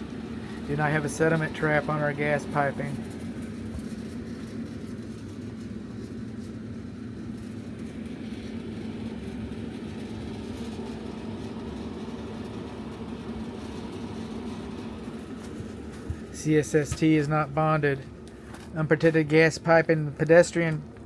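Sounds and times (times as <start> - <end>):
air handler humming: 0.0 - 21.0.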